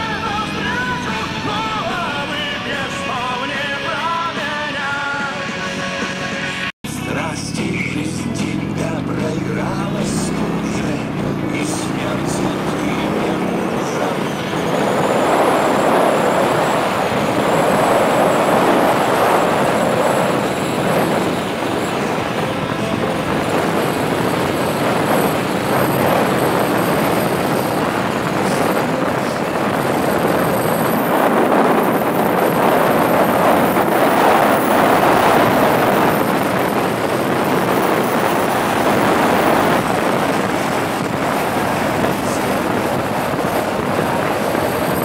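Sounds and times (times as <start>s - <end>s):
road noise: 0.0s - 45.0s
wind rushing over microphone: 0.0s - 45.0s
motorcycle engine: 5.4s - 45.0s.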